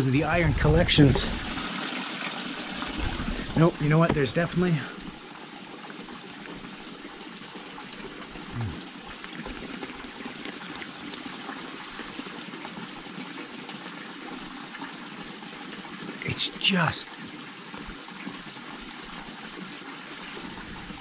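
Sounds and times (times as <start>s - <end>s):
water running into stone trough: 0.1s - 21.0s.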